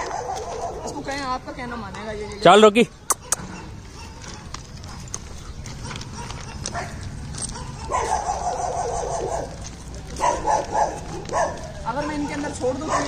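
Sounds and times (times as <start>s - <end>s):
dogs barking: 0.0s - 1.2s, 3.1s - 13.0s.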